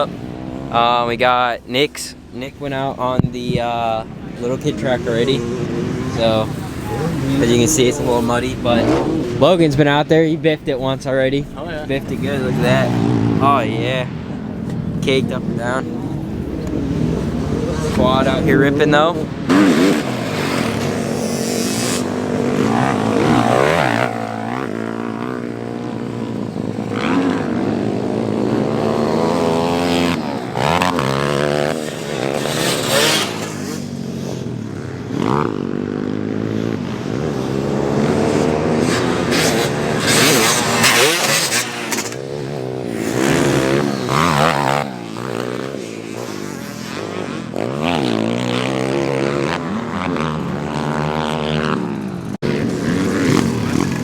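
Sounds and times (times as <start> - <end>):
off-road engines revving: 0.0 - 54.0.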